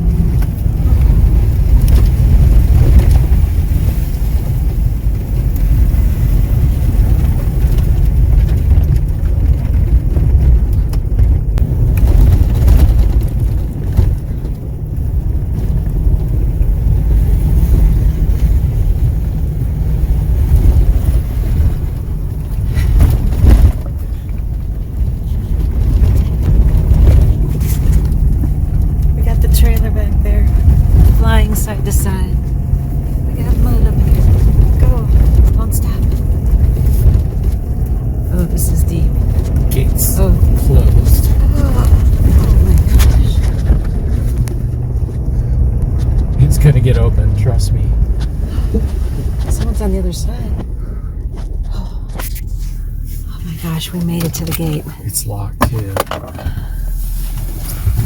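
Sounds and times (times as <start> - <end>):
vehicle driving on dirt road: 0.0 - 58.0.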